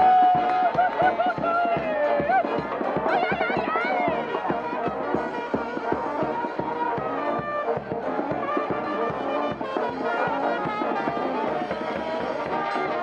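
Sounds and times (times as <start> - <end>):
marching jazz brass band: 0.0 - 13.0.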